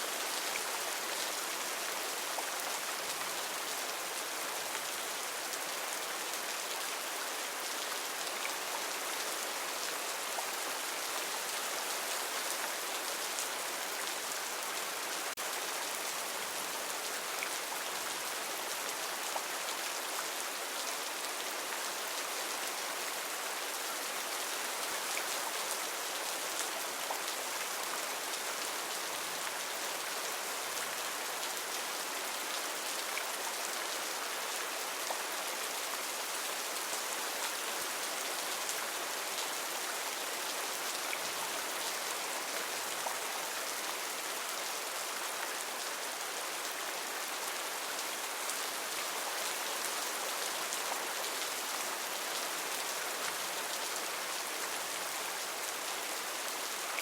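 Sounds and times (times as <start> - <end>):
heavy rain on foliage: 0.0 - 57.0.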